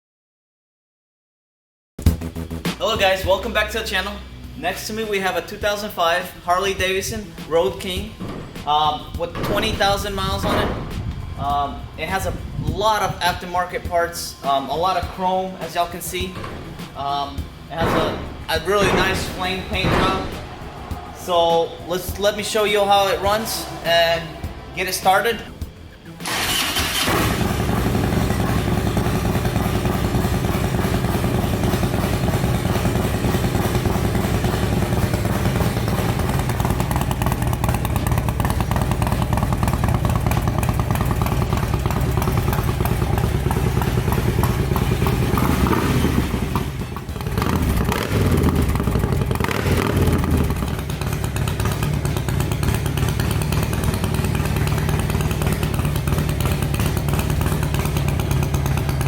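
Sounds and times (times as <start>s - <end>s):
motorcycle engine idling and revving: 2.0s - 59.0s.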